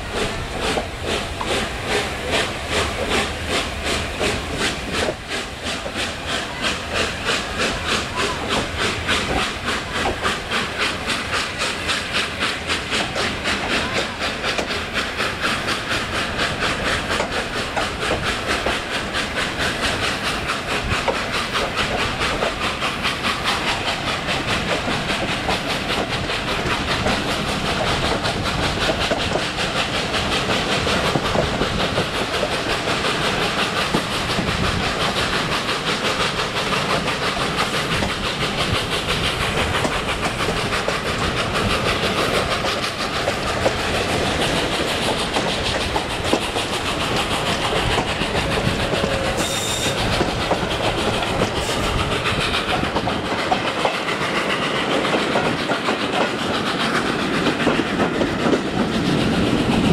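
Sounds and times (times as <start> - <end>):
steam hissing: 0.0 - 59.9
steam locomotive exhaust beating: 0.0 - 59.9.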